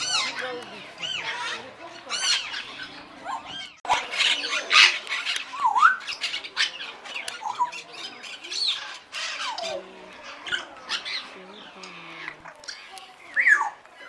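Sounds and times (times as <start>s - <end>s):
parrots squawking and screeching: 0.0s - 13.8s.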